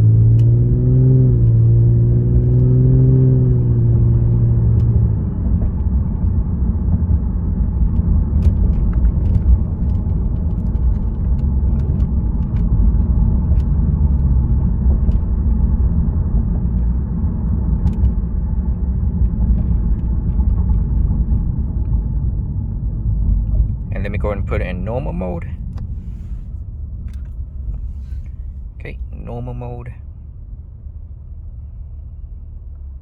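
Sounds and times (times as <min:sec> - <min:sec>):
car exhaust drone: 0:00.0 - 0:33.0
road noise: 0:00.0 - 0:33.0.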